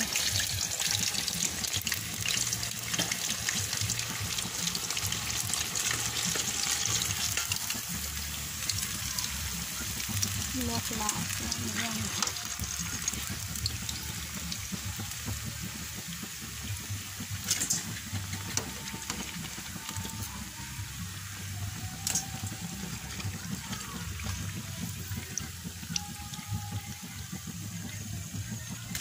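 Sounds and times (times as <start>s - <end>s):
food deep-frying in hot oil: 0.0s - 29.0s.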